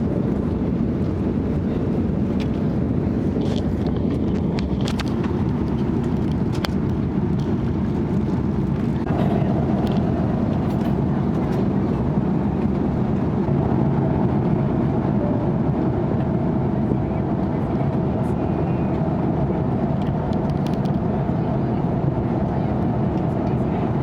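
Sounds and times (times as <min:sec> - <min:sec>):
jet engine cabin noise: 0:00.0 - 0:24.0.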